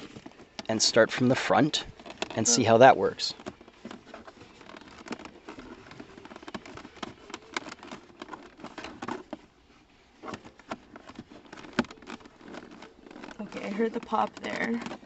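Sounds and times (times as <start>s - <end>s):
leather rustling: 0.0s - 15.0s.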